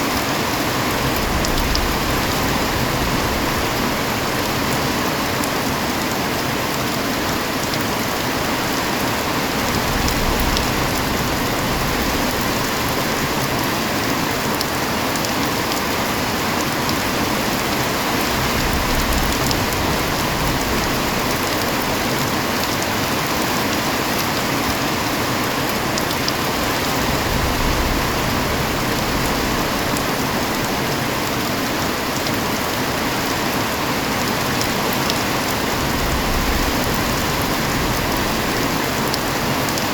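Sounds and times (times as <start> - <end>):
heavy rain: 0.0 - 39.9
raindrops pattering on a surface: 0.0 - 39.9.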